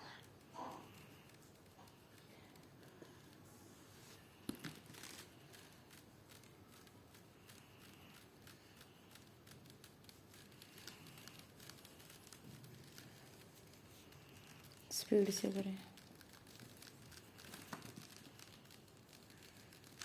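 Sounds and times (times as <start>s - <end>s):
colouring stick scratching paper: 0.0s - 20.0s.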